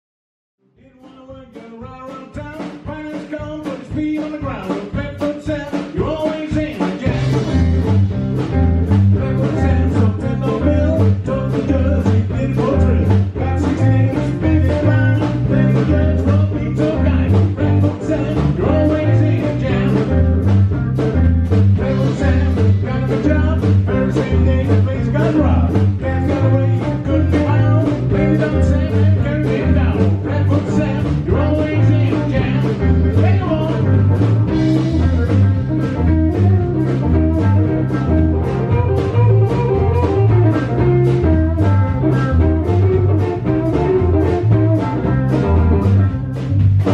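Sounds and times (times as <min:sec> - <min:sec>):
guitar: 0:00.6 - 0:46.9
drum beat: 0:00.8 - 0:46.9
repeating bass line: 0:07.1 - 0:46.9.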